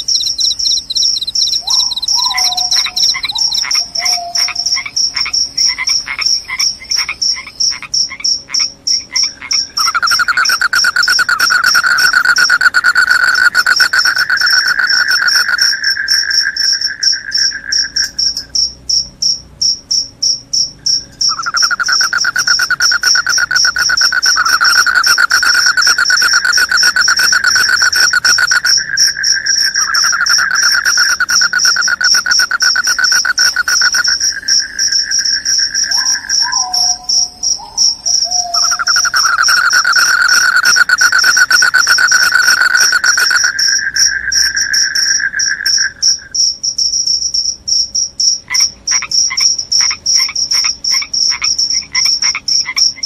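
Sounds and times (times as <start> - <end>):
crickets chirping: 0.0 - 53.0
lower rapid insect trill: 0.0 - 53.0.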